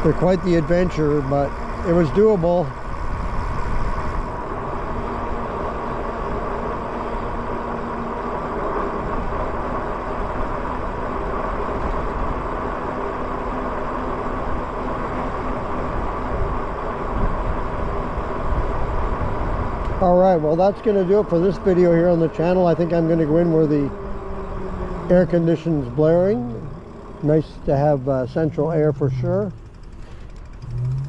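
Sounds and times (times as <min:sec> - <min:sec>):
faint electric drive hum: 0:00.0 - 0:31.0
wind and tyre noise: 0:00.0 - 0:31.0.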